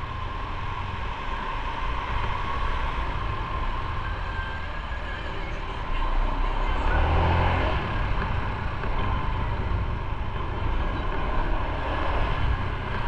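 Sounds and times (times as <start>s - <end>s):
motorcycle engine and road noise: 0.0s - 13.0s.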